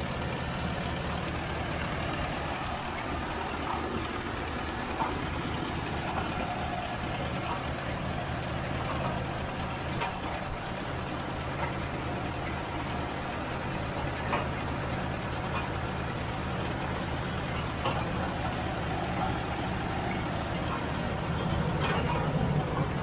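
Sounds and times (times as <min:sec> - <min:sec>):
drilling rig engine drone: 0:00.0 - 0:23.0.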